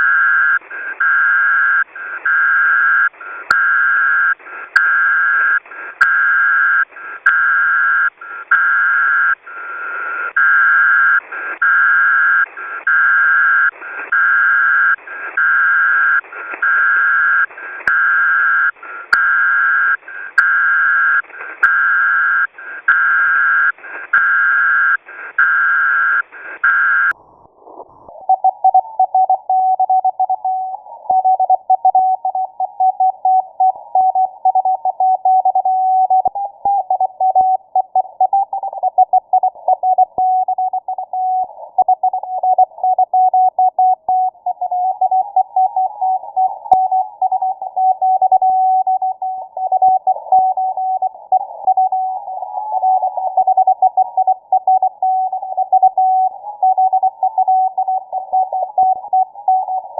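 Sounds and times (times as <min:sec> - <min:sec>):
radio tone pulses: 0:00.0 - 0:59.9.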